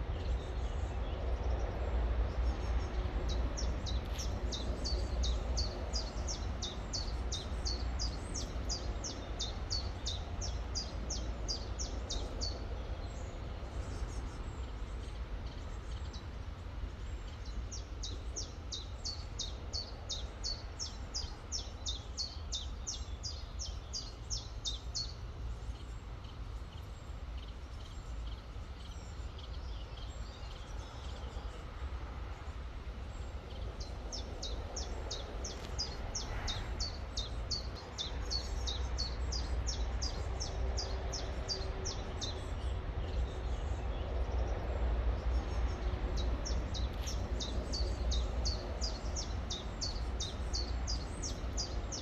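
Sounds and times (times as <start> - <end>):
songbird singing: 0.0 - 52.0.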